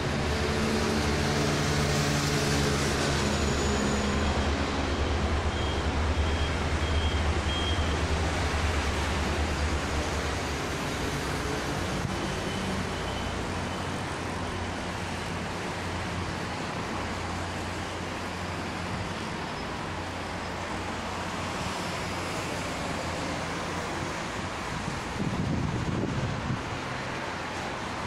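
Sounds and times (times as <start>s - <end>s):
distant train rumbling on tracks: 0.0s - 28.0s.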